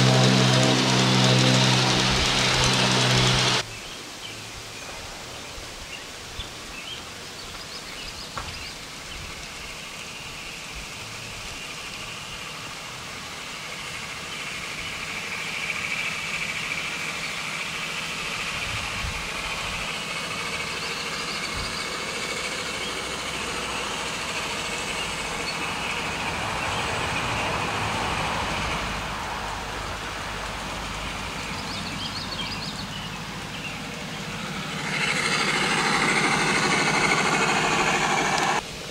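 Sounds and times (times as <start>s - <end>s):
model diesel locomotive running: 0.0s - 3.7s, 6.8s - 38.8s.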